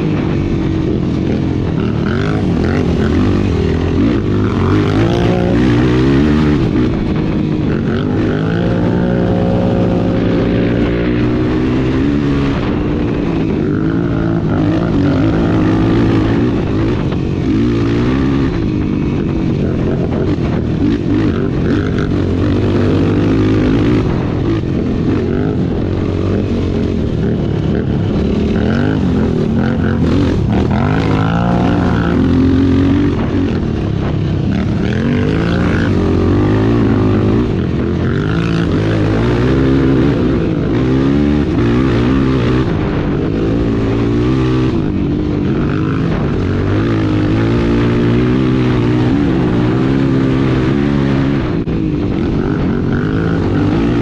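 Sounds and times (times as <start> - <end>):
race engine revving: 0.0 - 51.7
rough rushing noise: 0.0 - 54.0.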